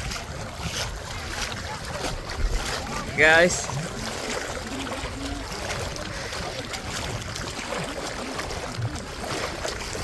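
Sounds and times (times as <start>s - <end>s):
beach wind: 0.0s - 10.0s
water washing: 0.0s - 10.0s
faint voices: 0.5s - 9.7s.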